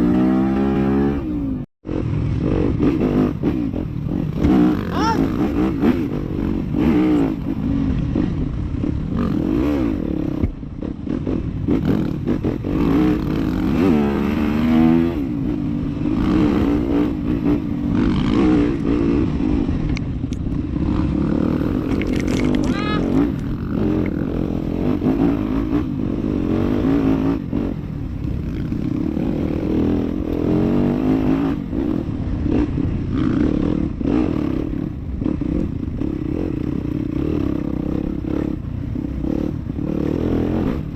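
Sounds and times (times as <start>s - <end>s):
dirt bike engine revving: 0.0s - 19.9s, 20.6s - 40.9s.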